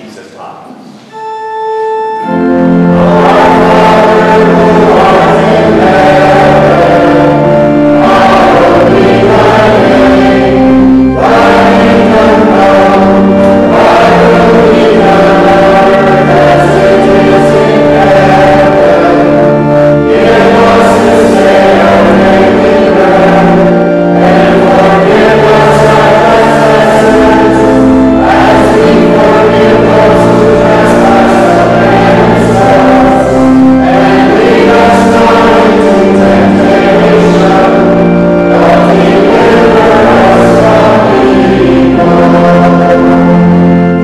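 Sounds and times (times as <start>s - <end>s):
church choir singing: 0.0s - 44.0s
held instrumental chords: 0.0s - 44.0s.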